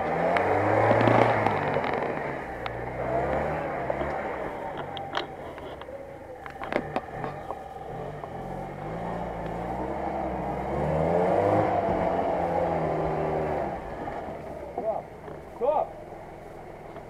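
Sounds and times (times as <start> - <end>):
vehicle engine pulling under load: 0.0 - 17.0.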